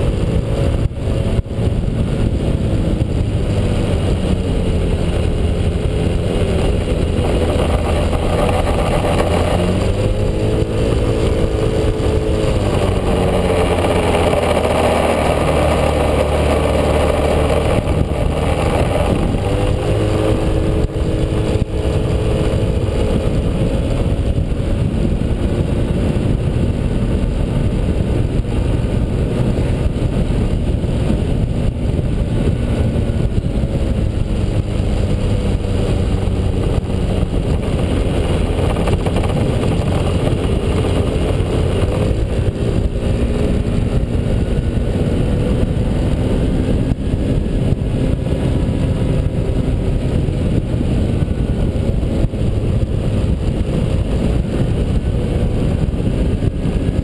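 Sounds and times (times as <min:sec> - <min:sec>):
scooter engine running: 0:00.0 - 0:57.0
wind rush on microphone: 0:00.0 - 0:57.0.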